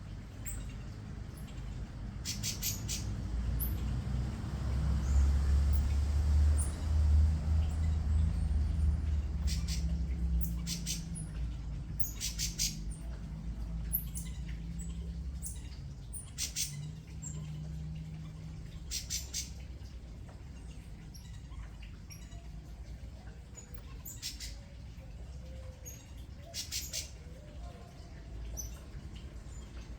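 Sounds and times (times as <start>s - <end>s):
birds chirping: 0.0s - 29.9s
low steady rumble: 0.0s - 29.9s.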